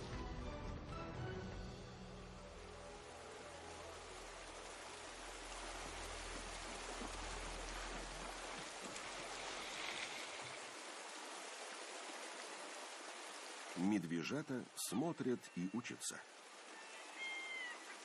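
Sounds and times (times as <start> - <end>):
river water rushing: 2.2 - 18.0.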